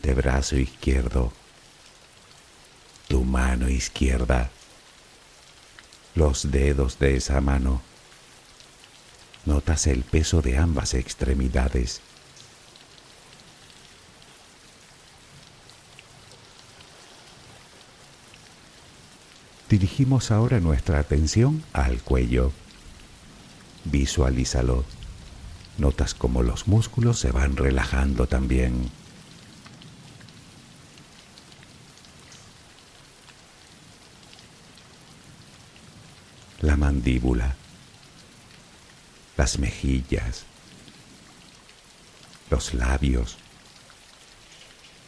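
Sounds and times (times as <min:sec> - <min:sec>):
light raindrop ticks: 0:00.0 - 0:45.0
soft rain hiss: 0:00.0 - 0:45.0.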